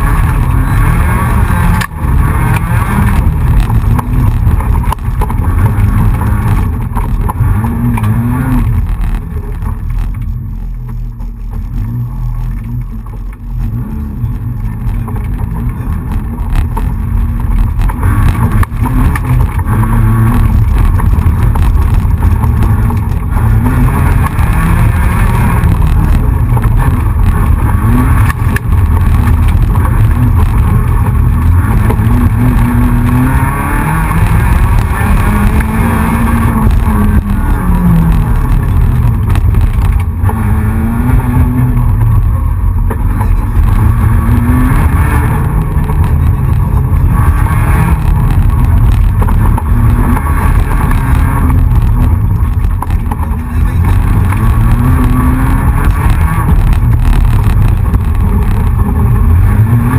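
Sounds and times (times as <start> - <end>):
rally car engine revving hard: 0.0 - 59.9.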